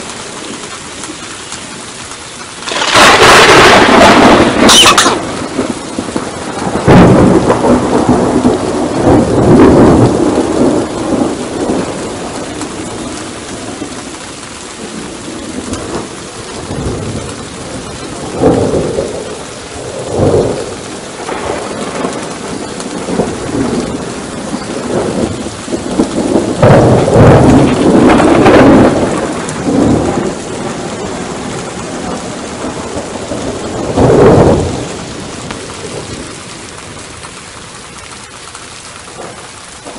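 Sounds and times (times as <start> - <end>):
steady rain: 0.0 - 39.9
thunder rolling: 2.6 - 37.2, 39.1 - 39.9.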